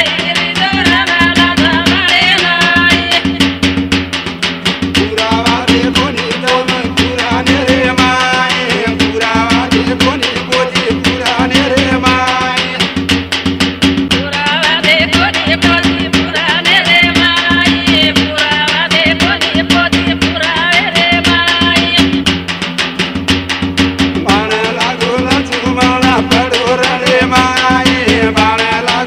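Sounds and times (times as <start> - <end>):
folk song melody: 0.0 - 29.0
frame drum beat: 0.0 - 29.0.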